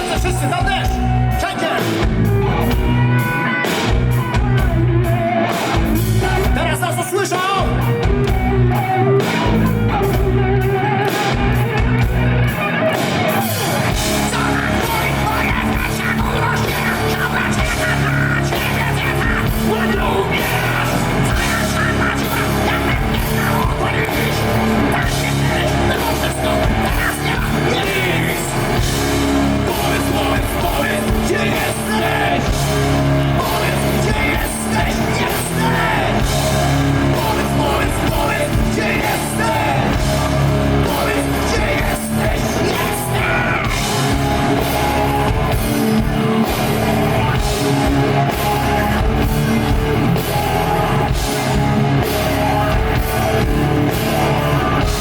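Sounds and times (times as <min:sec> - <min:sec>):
bass guitar: 0:00.0 - 0:55.0
distorted electric guitars: 0:00.0 - 0:55.0
drums: 0:00.0 - 0:55.0
sung and yelled vocals: 0:00.0 - 0:55.0.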